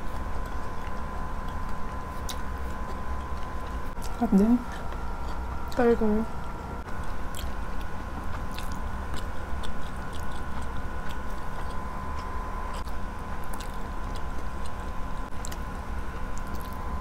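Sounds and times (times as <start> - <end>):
close chewing: 0.0 - 5.9, 6.8 - 17.0
steady low hum: 0.0 - 17.0.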